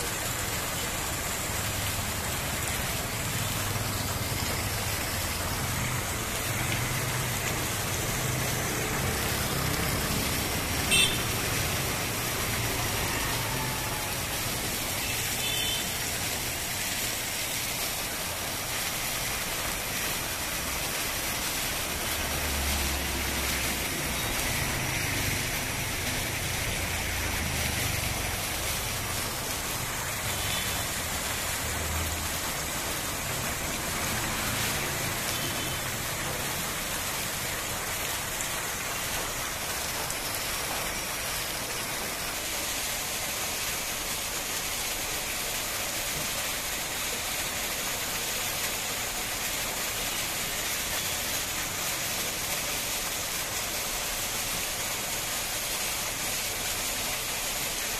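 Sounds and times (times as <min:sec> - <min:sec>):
water cascading down rock: 0:00.0 - 0:57.9.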